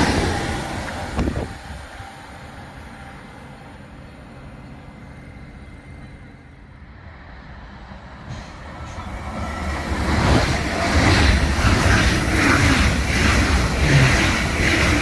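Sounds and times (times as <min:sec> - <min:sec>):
high-speed train passing: 0:00.0 - 0:15.0
rushing rail noise: 0:00.0 - 0:15.0.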